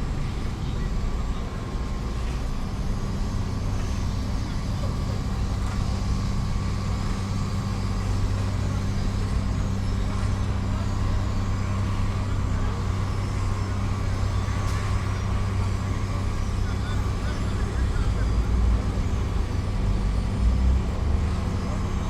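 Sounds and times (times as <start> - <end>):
heavy machine engine drone: 0.0 - 22.0.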